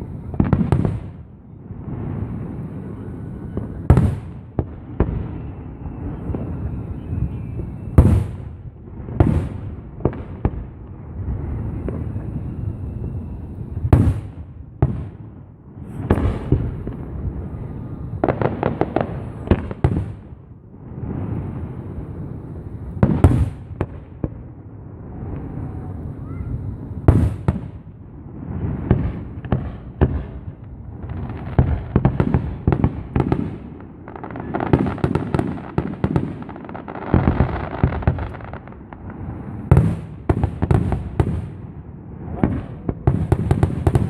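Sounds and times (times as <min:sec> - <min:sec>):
firework booms: 0:00.0 - 0:44.0
fireworks crackling: 0:00.0 - 0:44.0.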